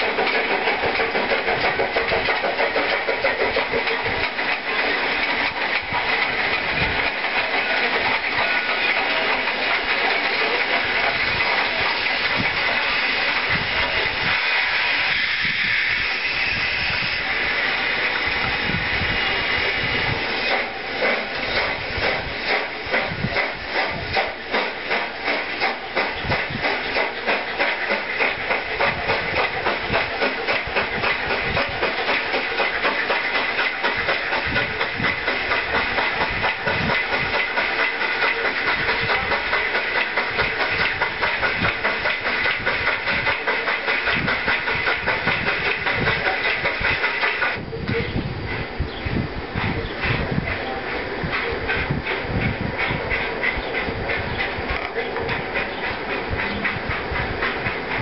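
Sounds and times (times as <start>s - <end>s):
steam hissing: 0.0s - 58.0s
steam locomotive exhaust chuff: 0.0s - 58.0s.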